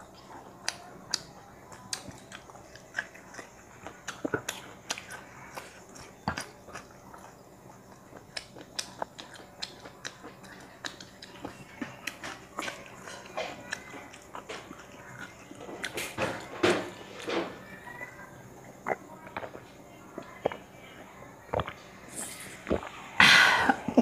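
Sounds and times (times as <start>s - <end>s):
person chewing food: 0.0s - 23.7s.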